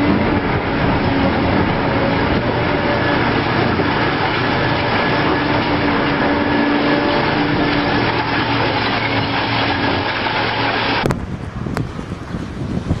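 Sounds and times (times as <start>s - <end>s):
diesel machinery engine running: 0.0s - 12.4s.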